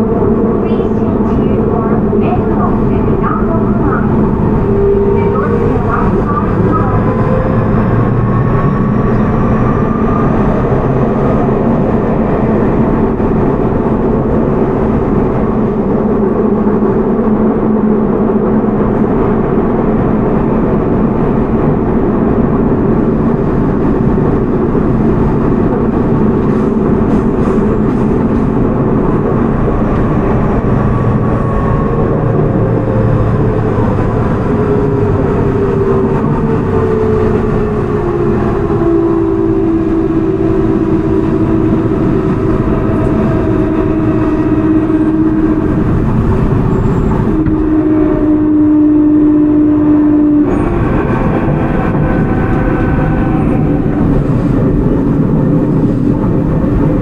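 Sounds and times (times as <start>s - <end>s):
wheels on rail noise: 0.0s - 57.0s.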